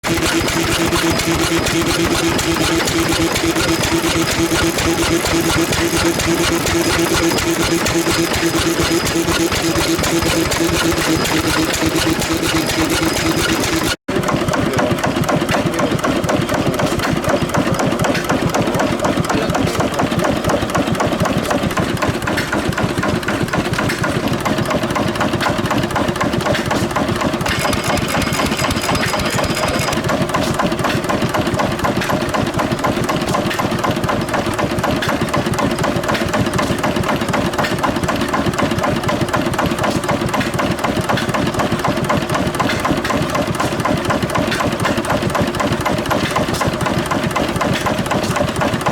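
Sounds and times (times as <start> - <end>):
stationary engine running: 0.0 - 48.9.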